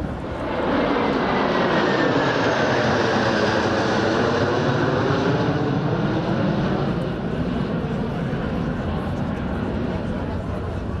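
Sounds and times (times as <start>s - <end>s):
jet fighters roaring past: 0.0s - 11.0s.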